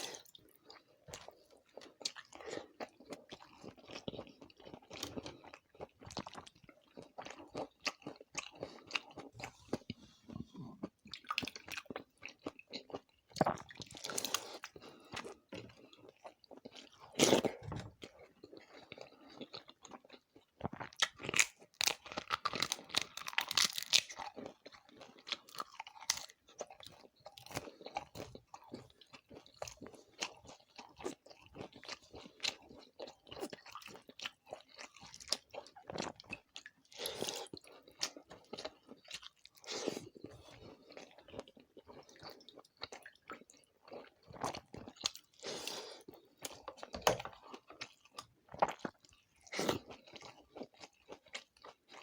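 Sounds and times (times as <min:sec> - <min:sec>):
person chewing crisp food: 0:00.0 - 0:52.0.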